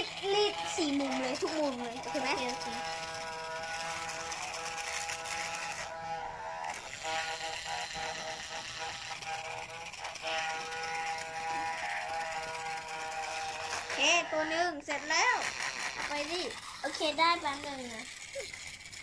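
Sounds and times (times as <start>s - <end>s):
toy sewing machine buzzing hum: 0.0s - 19.0s.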